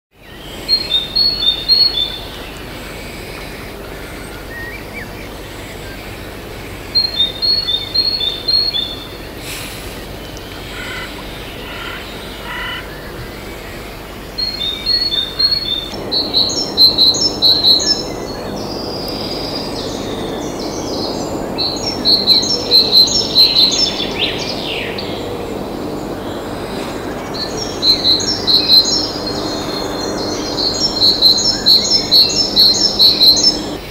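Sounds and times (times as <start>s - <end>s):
songbird chirping: 0.2s - 33.9s
other birds calling: 0.4s - 33.9s.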